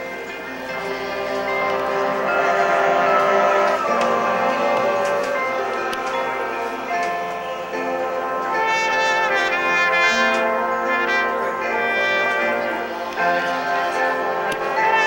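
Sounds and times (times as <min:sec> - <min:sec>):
brass section playing chords: 0:00.0 - 0:15.0.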